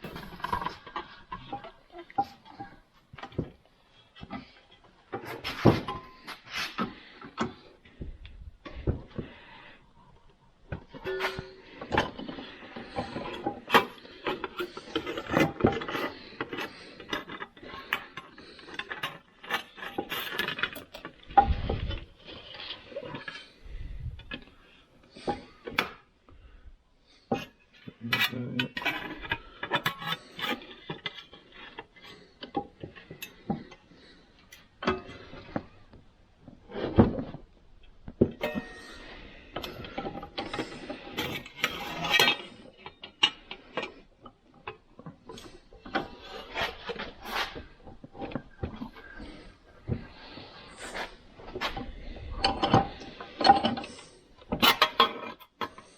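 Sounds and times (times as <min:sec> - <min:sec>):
metal and tools clanking: 0:00.0 - 0:03.6, 0:04.2 - 0:07.7, 0:10.7 - 0:24.5, 0:27.3 - 0:36.0, 0:38.1 - 0:55.9.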